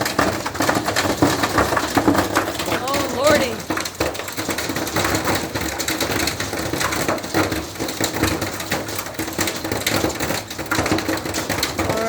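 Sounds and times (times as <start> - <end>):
torrential rain and hail: 0.0 - 12.0.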